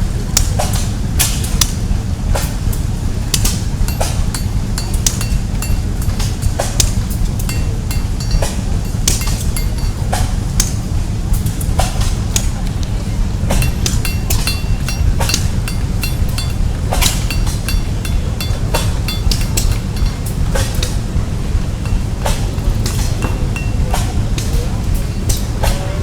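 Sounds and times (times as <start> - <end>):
steady low rumble: 0.0 - 26.0
hammer striking metal on anvil: 0.4 - 26.0.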